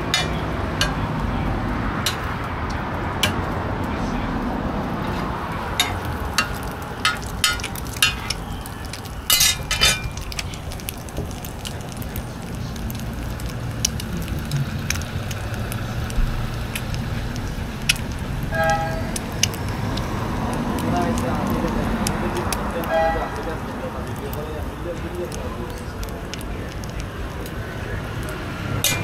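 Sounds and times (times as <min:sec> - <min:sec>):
roti sizzling in oil: 0:05.0 - 0:29.0.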